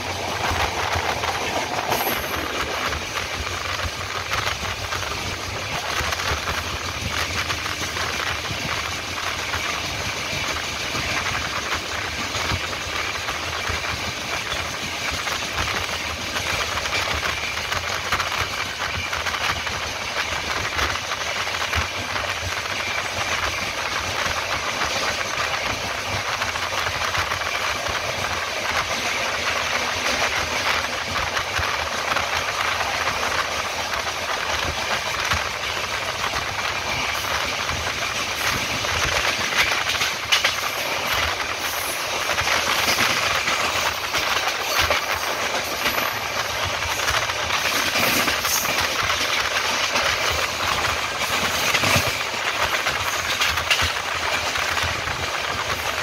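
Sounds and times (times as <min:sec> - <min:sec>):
train clicks and clatter: 0:00.0 - 0:56.0
train rumbling at speed: 0:00.0 - 0:56.0.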